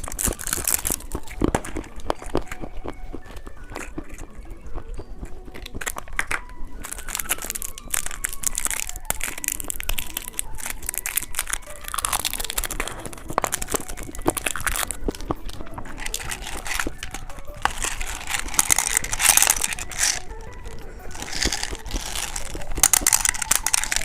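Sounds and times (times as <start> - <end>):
plastic packaging crinkling: 0.0 - 4.3, 5.4 - 24.0.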